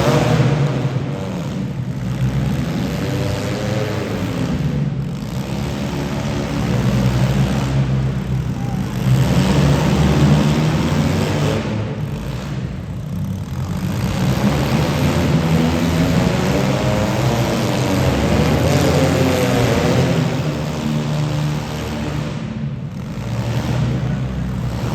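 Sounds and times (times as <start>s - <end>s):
car engines revving: 0.0s - 24.9s.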